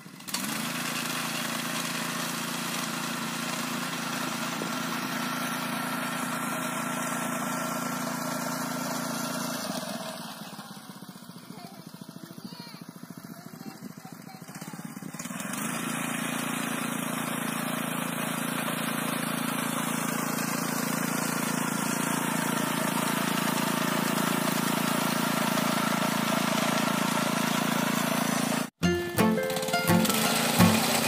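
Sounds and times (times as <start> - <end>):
small petrol mower engine: 0.0 - 31.0.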